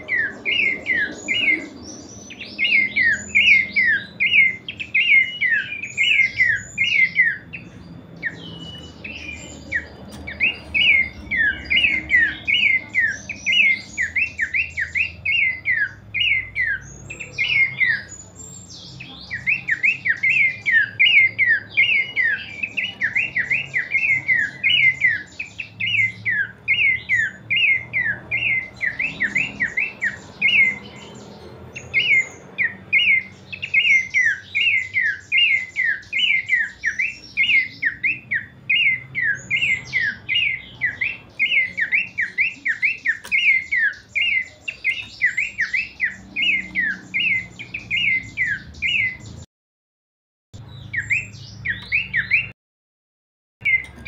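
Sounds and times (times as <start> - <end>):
bird calling sharp notes: 0.0 - 49.4.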